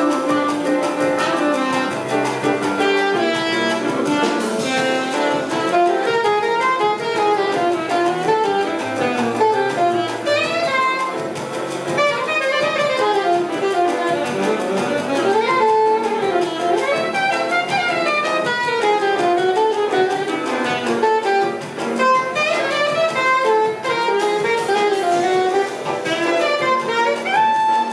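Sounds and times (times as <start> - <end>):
grand piano: 0.0 - 27.9
saxophone: 0.0 - 27.9.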